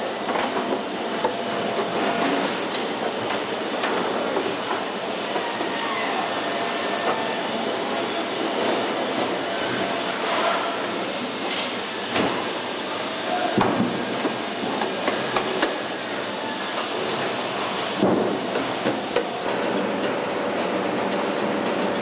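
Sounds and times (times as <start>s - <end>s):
steady machinery hiss: 0.8s - 19.8s.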